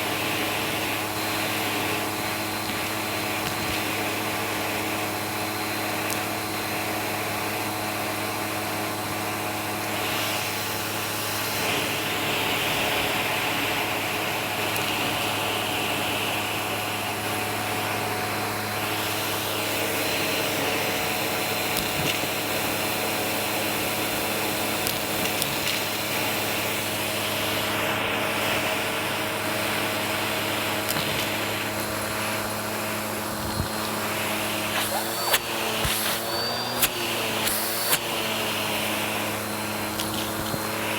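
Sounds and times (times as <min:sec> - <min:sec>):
vacuum cleaner running on carpet: 0:00.0 - 0:40.9.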